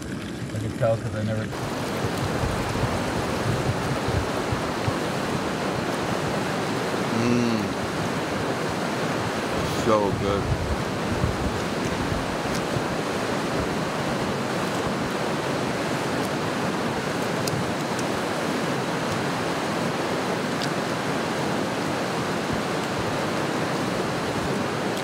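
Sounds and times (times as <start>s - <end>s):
river rapids rushing: 1.5s - 25.0s.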